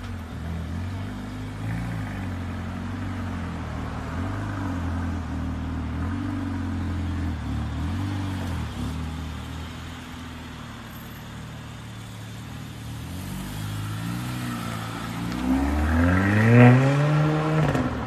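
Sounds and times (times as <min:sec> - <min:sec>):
car engine and exhaust: 0:00.0 - 0:18.0.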